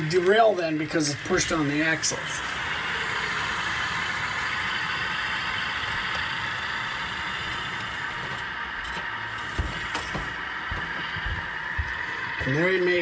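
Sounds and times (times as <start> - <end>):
model locomotives running: 0.0 - 13.0.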